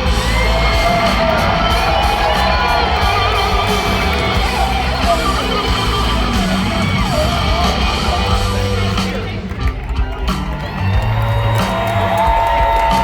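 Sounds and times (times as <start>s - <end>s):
lead guitar with bent notes: 0.0s - 11.2s
crowd yelling: 0.0s - 13.0s
live rock band playing: 0.0s - 13.0s.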